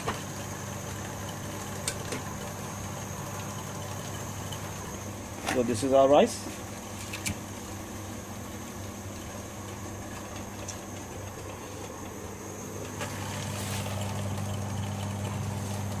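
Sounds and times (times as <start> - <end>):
liquid boiling in a pot: 0.0 - 16.0.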